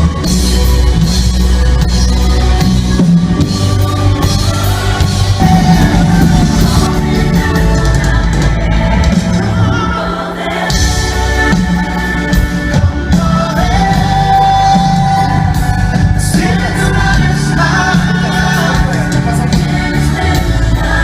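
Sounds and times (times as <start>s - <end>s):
drums and bass: 0.0s - 21.0s
person singing: 3.9s - 21.0s.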